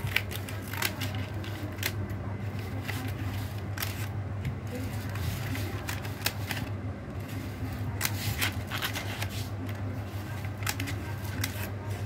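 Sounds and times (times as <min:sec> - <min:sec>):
paper mailer crinkling: 0:00.0 - 0:04.1, 0:04.7 - 0:12.0.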